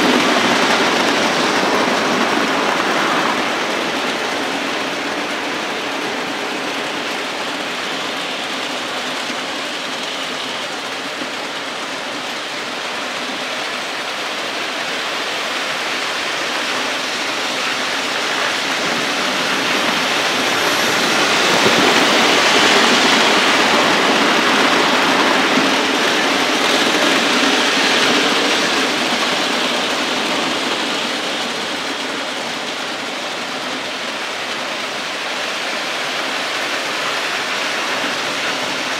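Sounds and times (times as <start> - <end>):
model train wheels on rails: 0.0 - 38.9.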